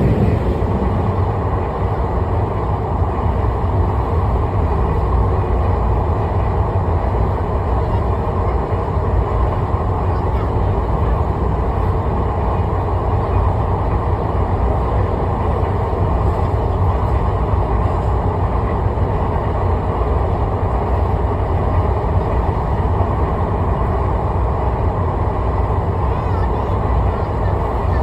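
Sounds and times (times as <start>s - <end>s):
vehicle rumbling in motion: 0.0s - 28.0s.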